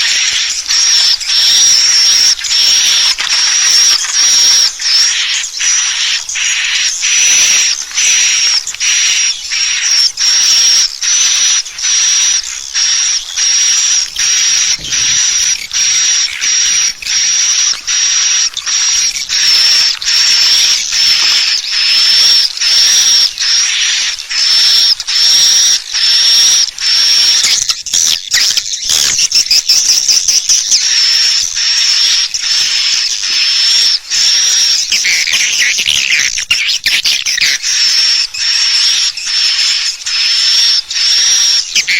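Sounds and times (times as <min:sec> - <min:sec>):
high-pitched buzzing bird chirps: 0:00.0 - 0:41.9.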